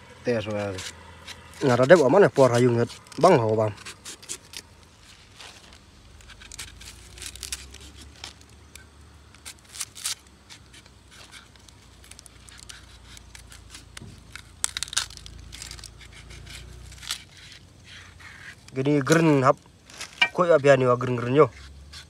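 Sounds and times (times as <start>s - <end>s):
knife peeling vegetables: 0.2s - 22.0s.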